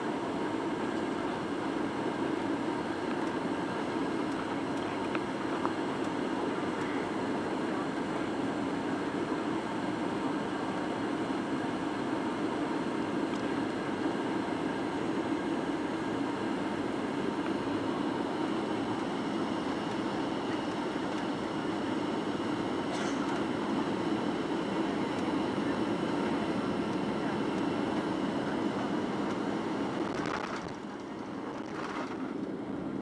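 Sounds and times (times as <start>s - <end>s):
aircraft engine hum: 0.0s - 33.0s.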